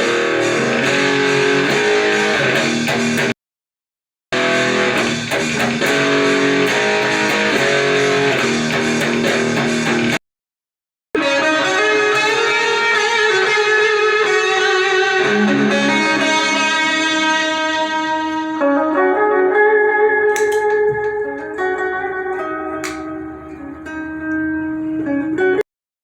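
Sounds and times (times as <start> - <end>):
clean electric guitar: 0.0 - 3.3, 4.4 - 10.2, 11.2 - 25.6.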